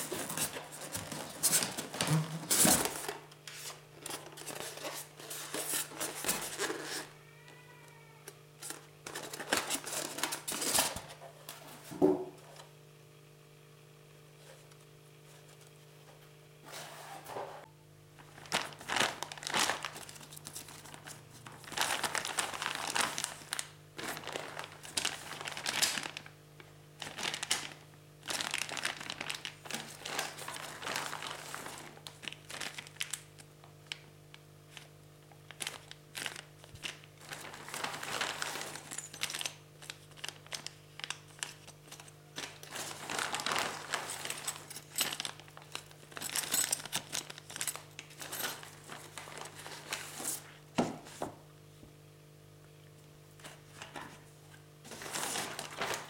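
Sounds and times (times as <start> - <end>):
packaging crinkling and rustling: 0.0 - 8.0, 8.6 - 11.2, 18.2 - 51.3, 53.4 - 56.0.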